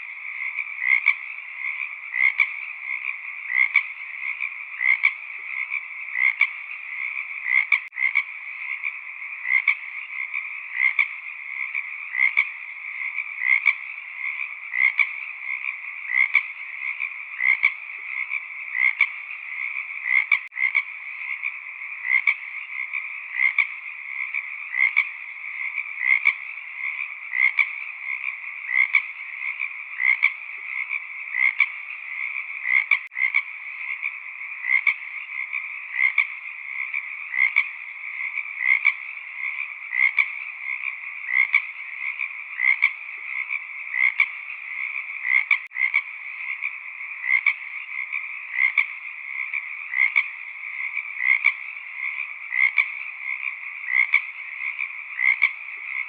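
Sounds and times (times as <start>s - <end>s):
frog chorus: 0.0s - 56.0s
loud frog call: 0.0s - 56.0s.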